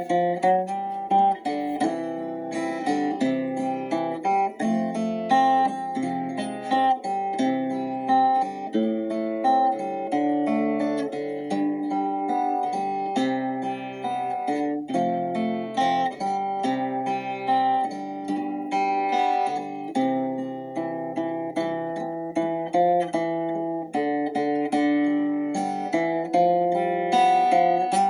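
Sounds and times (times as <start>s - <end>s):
acoustic guitar plucked chords: 0.0s - 28.0s.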